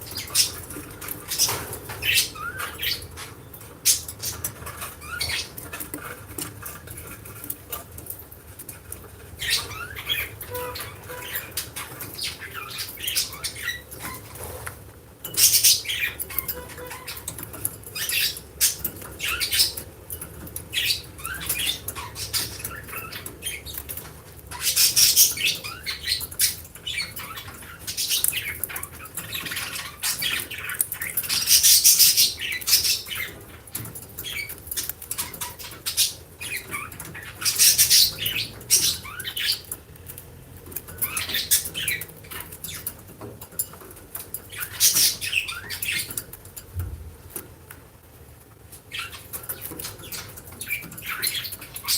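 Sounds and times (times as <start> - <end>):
lovebirds chirping and squawking: 0.0 - 47.5, 48.4 - 51.9.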